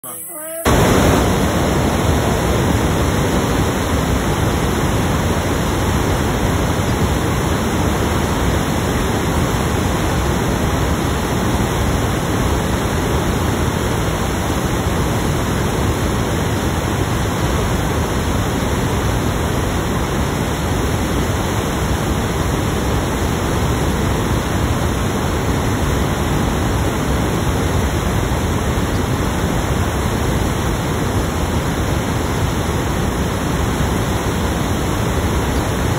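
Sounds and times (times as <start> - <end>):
static hiss: 0.0 - 35.9.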